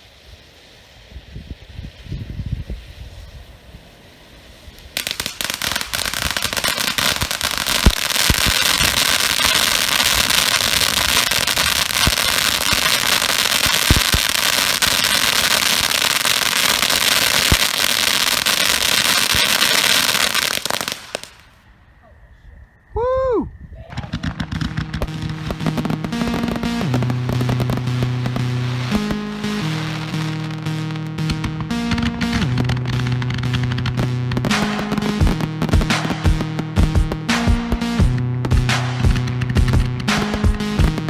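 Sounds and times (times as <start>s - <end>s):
firework fountain hissing and crackling: 0.0s - 21.7s, 23.9s - 41.0s.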